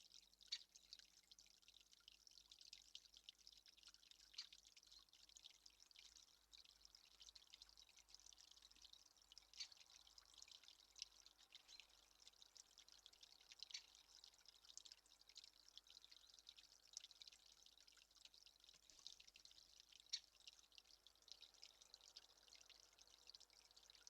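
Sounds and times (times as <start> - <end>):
dripping and trickling water: 0.0 - 24.0.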